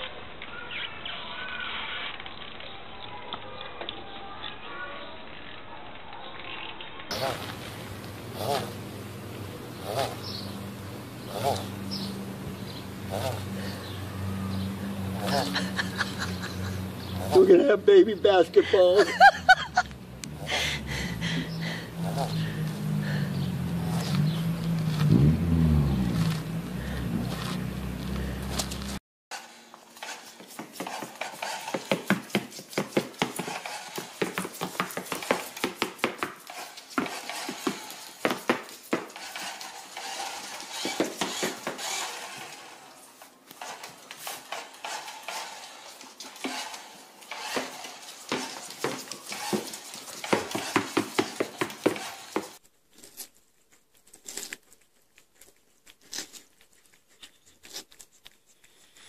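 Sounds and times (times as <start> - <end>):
tortoise biting watermelon: 6.4 - 9.0, 9.6 - 17.7, 19.9 - 59.0.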